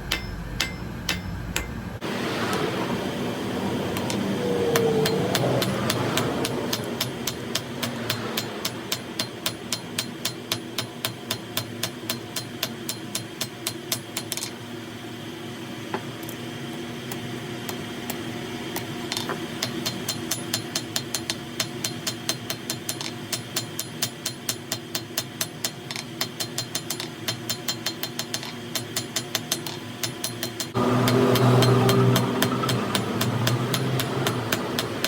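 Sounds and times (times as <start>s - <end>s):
hammer striking metal on anvil: 0.0s - 2.6s, 4.0s - 14.5s, 19.1s - 35.0s
steady low hum: 0.0s - 35.0s.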